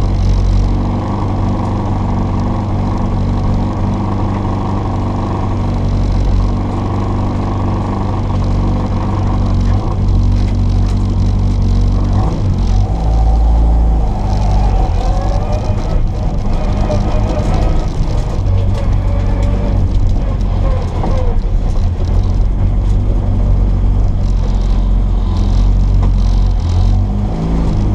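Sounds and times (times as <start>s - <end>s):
rally car engine running hard: 0.0s - 27.9s.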